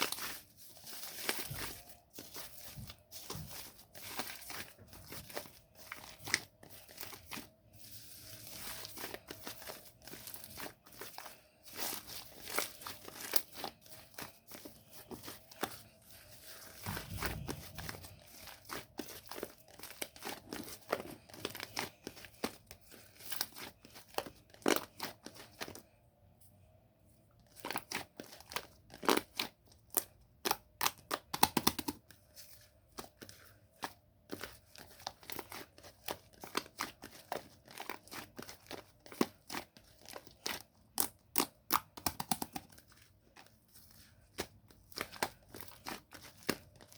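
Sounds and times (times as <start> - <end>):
hands squishing slime: 0.0 - 25.8, 27.6 - 46.9.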